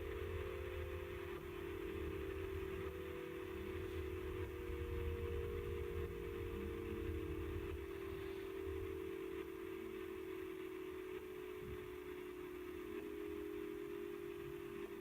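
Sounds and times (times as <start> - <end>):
synthesized humming drone: 0.0 - 15.0.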